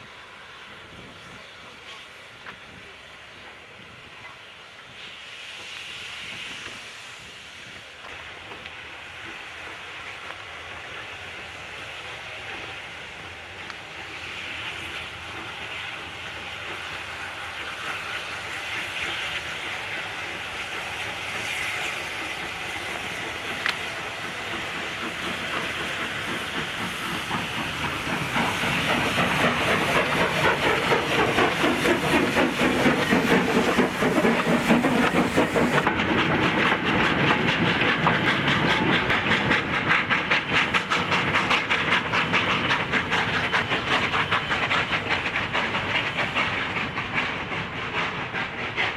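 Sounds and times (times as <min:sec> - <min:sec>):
steam hissing: 0:00.0 - 0:48.9
steam locomotive chuffing: 0:00.0 - 0:48.9.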